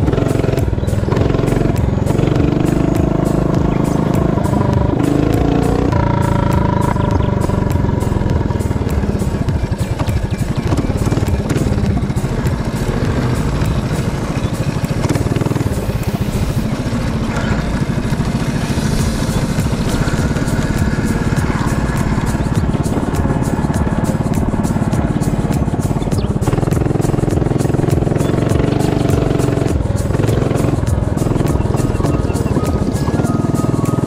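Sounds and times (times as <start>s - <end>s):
small motorbike engine running: 0.0s - 34.0s.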